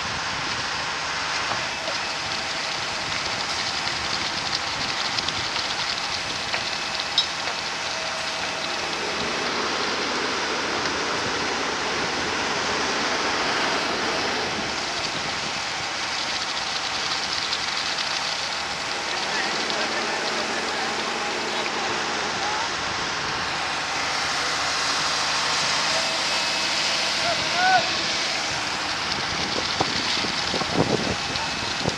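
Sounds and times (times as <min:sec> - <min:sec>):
concrete pump rushing: 0:00.0 - 0:31.9.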